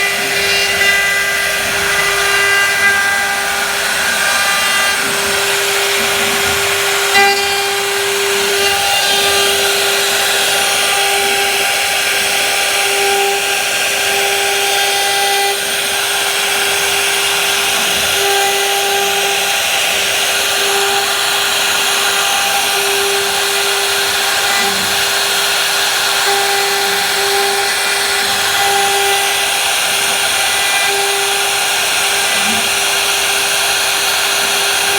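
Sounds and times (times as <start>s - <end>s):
power tool cutting wood: 0.0s - 34.9s.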